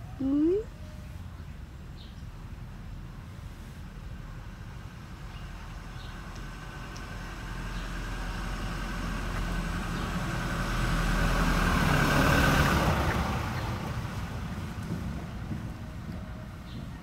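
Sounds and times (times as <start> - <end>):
motor vehicle passing by: 0.0 - 17.0.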